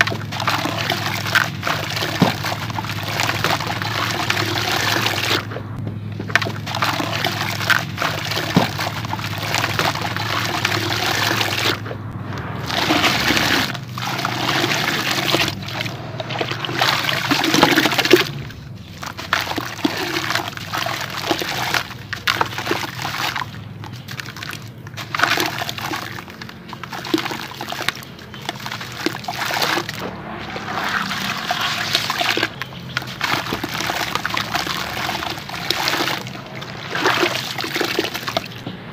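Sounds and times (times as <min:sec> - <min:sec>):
grains splashing into water: 0:00.0 - 0:05.5, 0:06.2 - 0:38.8.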